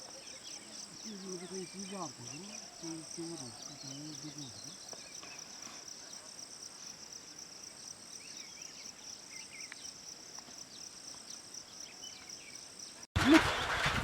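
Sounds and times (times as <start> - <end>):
high insect chorus: 0.0 - 13.1.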